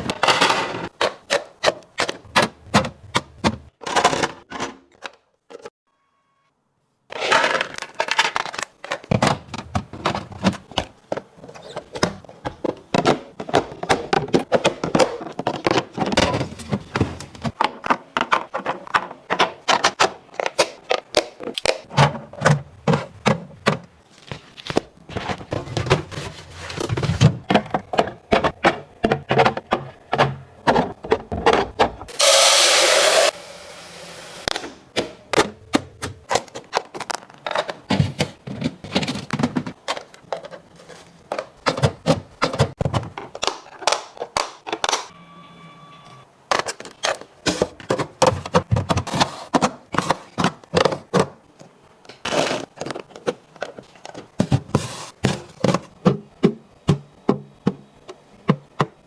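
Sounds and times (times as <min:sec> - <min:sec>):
containers clacking and thunking: 0:00.0 - 0:05.7, 0:07.1 - 0:32.2, 0:34.5 - 0:45.1, 0:46.5 - 0:59.0.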